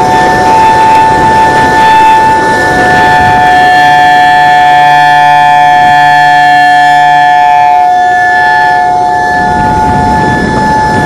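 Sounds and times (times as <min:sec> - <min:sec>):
warning siren steady two-note tone: 0:00.0 - 0:11.0.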